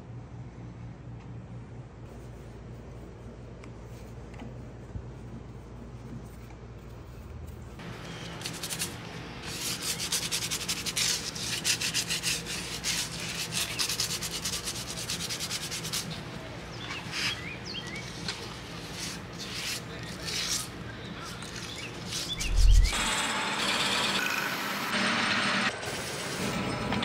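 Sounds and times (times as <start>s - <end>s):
low steady hum: 0.0s - 23.1s.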